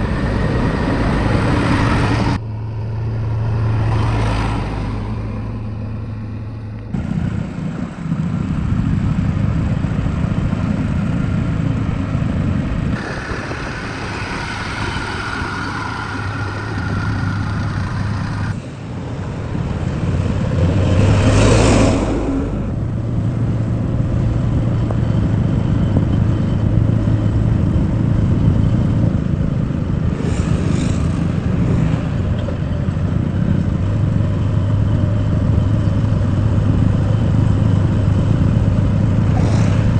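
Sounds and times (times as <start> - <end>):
vehicle engines humming: 0.0 - 39.9.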